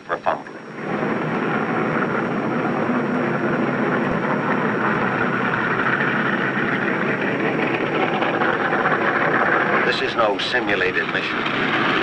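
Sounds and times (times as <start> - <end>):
steady engine noise: 0.0 - 12.0.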